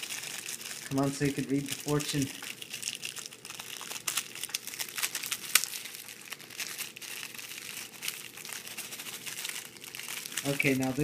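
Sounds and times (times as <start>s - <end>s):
cookie cracking: 0.0s - 11.0s
plastic wrapper crinkling: 0.0s - 11.0s.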